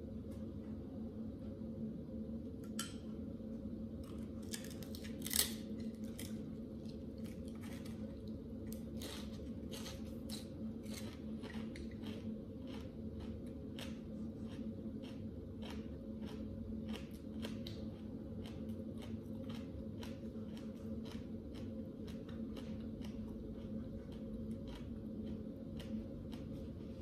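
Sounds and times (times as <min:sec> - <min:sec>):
low hum: 0:00.0 - 0:27.0
crunching rice cracker: 0:04.0 - 0:26.6.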